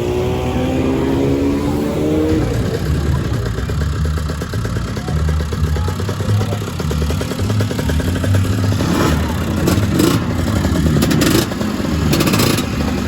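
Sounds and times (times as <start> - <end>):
scooter engine revving and popping: 0.0 - 13.0
scooter engines rumbling: 0.0 - 13.0.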